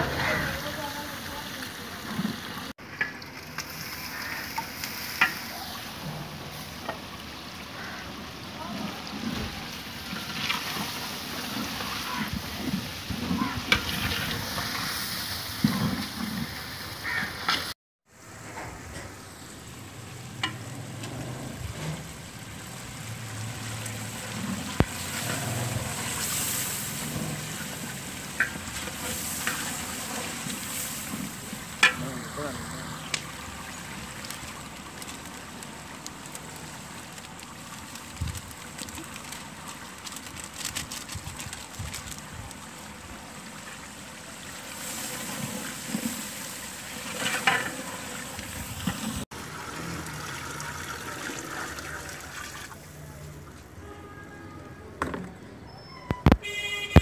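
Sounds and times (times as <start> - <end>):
food sizzling in a pot: 0.0 - 40.0, 41.7 - 52.9.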